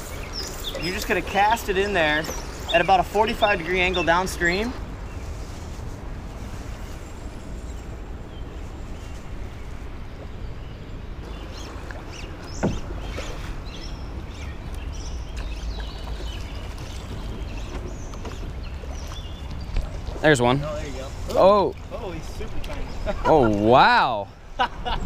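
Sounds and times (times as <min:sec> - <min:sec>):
birds chirping: 0:00.0 - 0:05.9, 0:06.6 - 0:25.0
water moving around a boat hull: 0:00.0 - 0:24.0.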